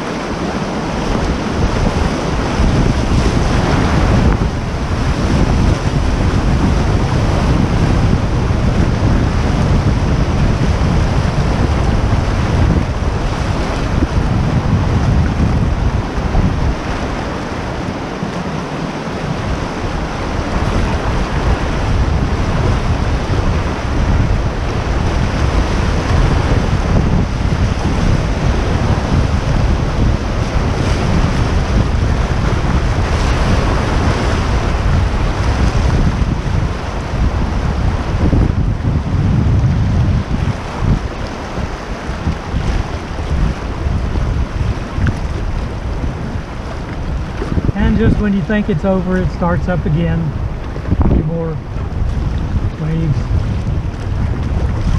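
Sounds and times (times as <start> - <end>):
whitewater rushing and splashing: 0.0 - 54.9
wind rumble on microphone: 0.0 - 54.9.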